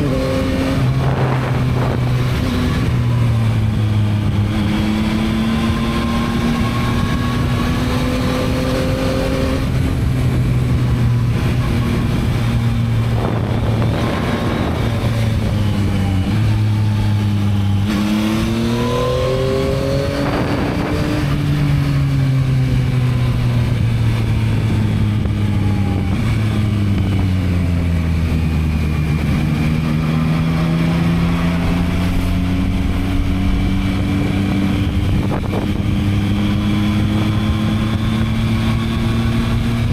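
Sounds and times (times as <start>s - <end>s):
motorcycle engine revving on road: 0.0s - 39.9s.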